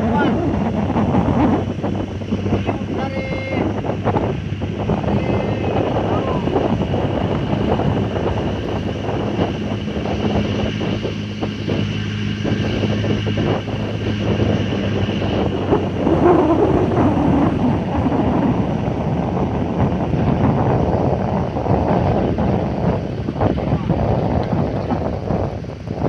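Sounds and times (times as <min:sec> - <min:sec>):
boat motor running: 0:00.0 - 0:26.0
wind buffeting microphone: 0:00.0 - 0:26.0.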